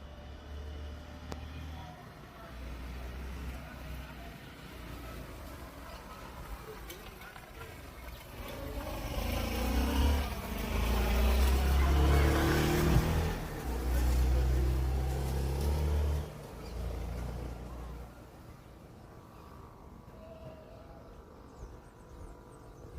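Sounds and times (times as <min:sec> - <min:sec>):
vehicle engine rumble: 0:00.0 - 0:22.9.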